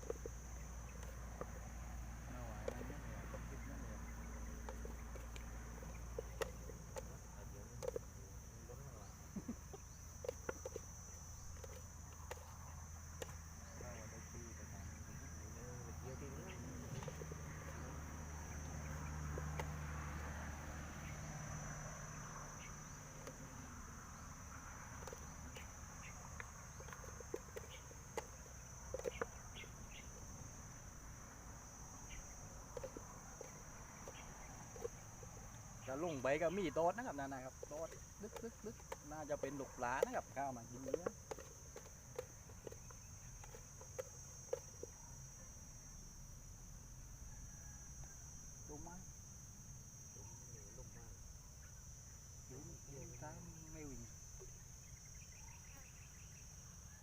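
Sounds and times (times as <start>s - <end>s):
faint ticks and chirps: 0.0s - 49.0s, 49.9s - 57.0s
crickets droning: 0.0s - 57.0s
insects trilling: 0.0s - 57.0s.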